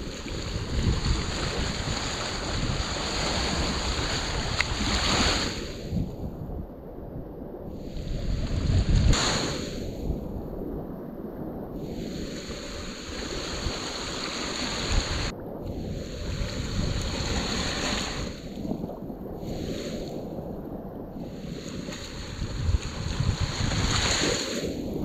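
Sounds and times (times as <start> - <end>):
surf washing around microphone: 0.0 - 25.0
wind noise: 0.0 - 25.0.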